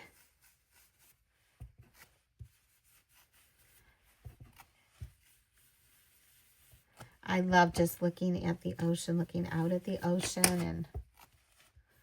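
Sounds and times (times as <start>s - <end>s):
hands handling paper and tools: 0.0s - 12.0s.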